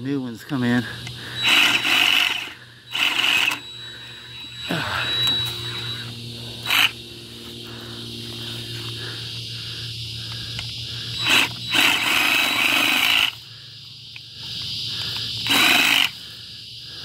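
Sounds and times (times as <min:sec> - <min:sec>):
cicada drone: 0:00.0 - 0:17.0
reciprocating saw cutting stems: 0:00.5 - 0:16.4.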